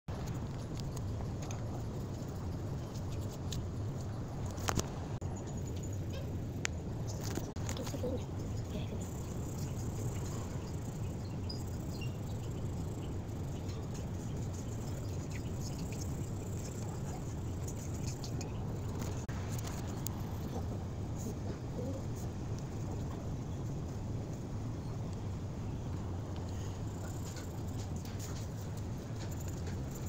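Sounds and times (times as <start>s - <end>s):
low background rumble: 0.1s - 30.0s.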